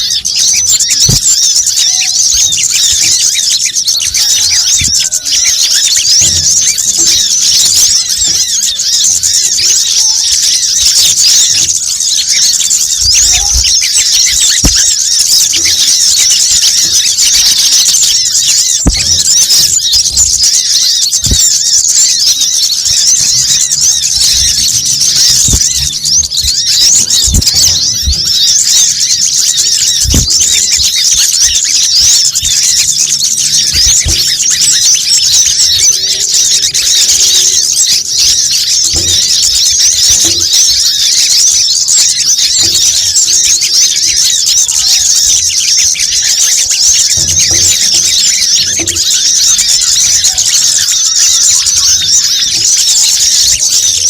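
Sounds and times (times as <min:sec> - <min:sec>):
sunbirds chirping and twittering: 0:00.0 - 0:54.0.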